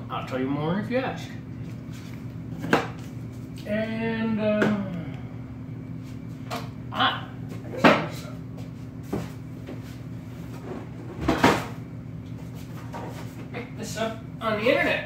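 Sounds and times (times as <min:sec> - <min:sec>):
low hum: 0:01.2 - 0:14.6.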